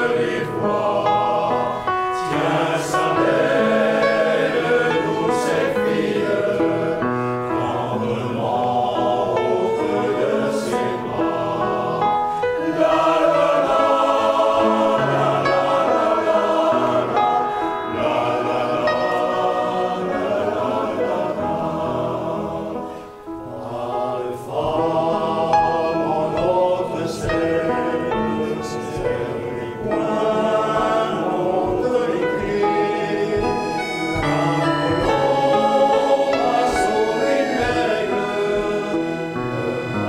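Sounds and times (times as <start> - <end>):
men's choir singing: 0.0 - 40.0.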